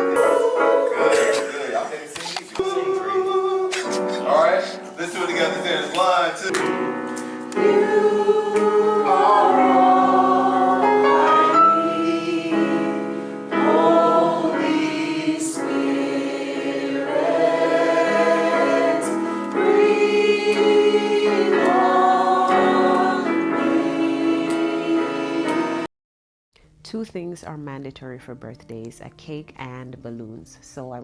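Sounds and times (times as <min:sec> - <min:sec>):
choir singing gospel: 0:00.0 - 0:25.9.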